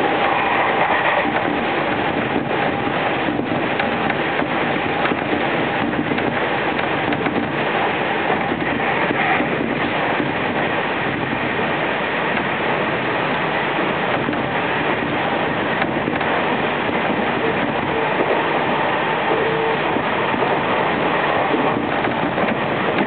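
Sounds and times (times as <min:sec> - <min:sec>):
electric train running inside carriage: 0:00.0 - 0:23.0.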